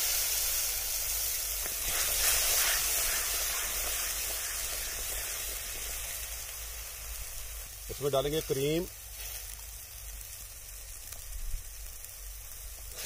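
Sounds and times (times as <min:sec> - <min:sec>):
yogurt sizzling in hot oil: 0:00.0 - 0:13.0.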